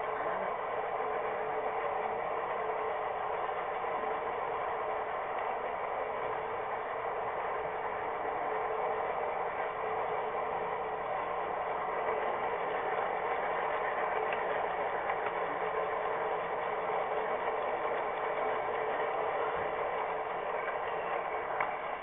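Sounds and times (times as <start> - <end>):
model train motor whirring: 0.0 - 22.0
wheels rolling on track: 0.0 - 22.0.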